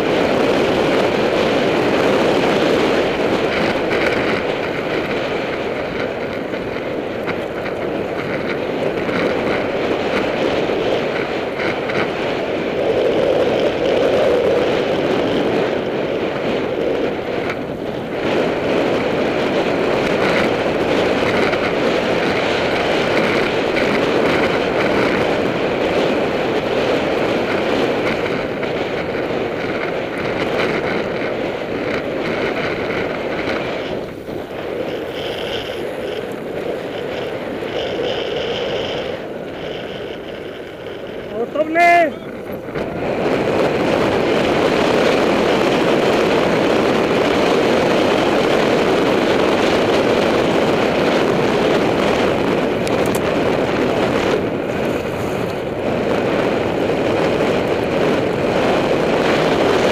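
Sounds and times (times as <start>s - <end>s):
bike rattling and knocking: 0.0s - 59.9s
bike tyres rolling on loose dirt: 0.0s - 59.9s
wind rush on microphone: 0.0s - 59.9s.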